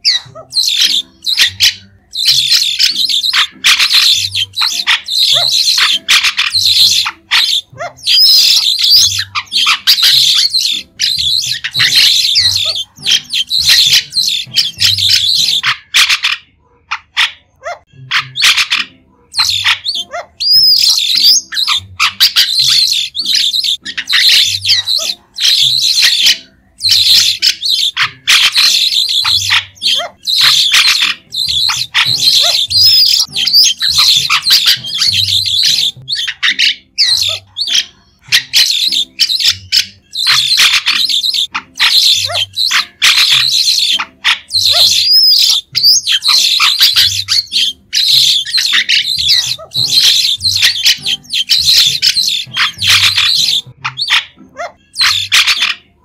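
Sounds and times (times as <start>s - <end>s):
starling chattering and squawking: 0.0s - 56.0s.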